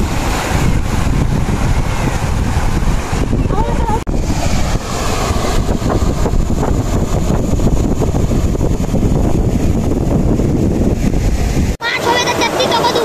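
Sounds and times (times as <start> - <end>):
floodwater rushing: 0.0 - 13.0
wind buffeting microphone: 0.0 - 13.0.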